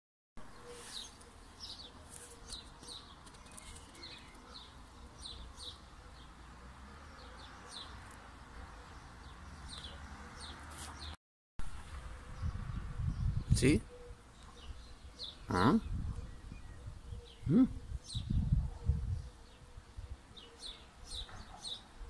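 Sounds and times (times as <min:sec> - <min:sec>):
small birds chirping: 0:00.4 - 0:22.0.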